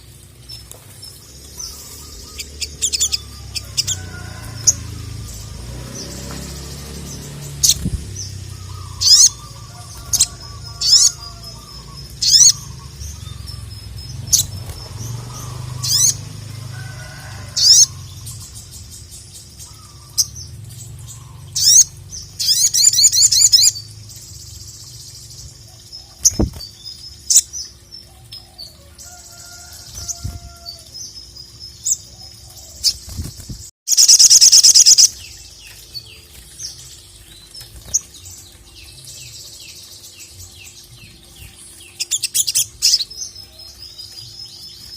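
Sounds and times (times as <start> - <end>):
bird chirping and trilling: 0.0 - 44.9.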